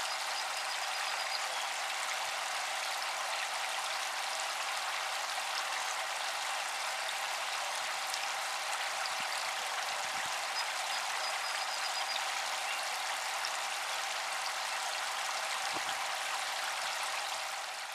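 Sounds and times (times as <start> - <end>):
faint pump hum: 0.0 - 17.9
fountain water splashing: 0.0 - 17.9.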